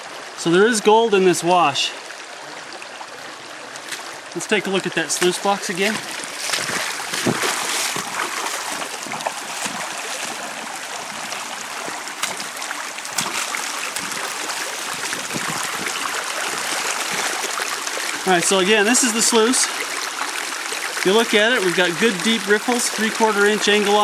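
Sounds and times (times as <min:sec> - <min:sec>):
creek water rushing and trickling: 0:00.0 - 0:24.0.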